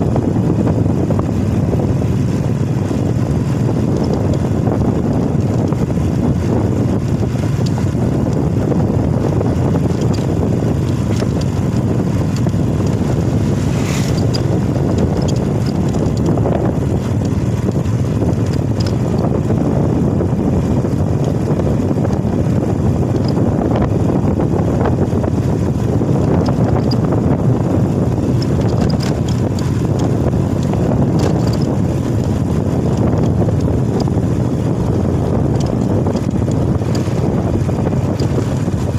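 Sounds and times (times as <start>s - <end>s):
motorcycle running: 0.0s - 38.9s
wind buffeting microphone: 0.0s - 38.9s.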